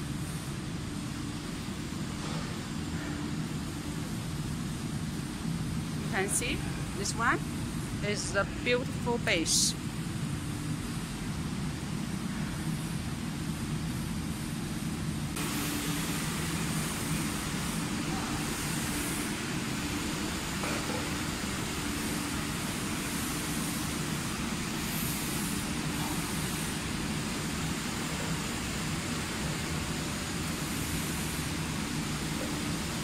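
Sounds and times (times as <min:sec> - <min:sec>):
continuous hiss: 0:00.0 - 0:33.0
low machinery hum: 0:00.0 - 0:33.0.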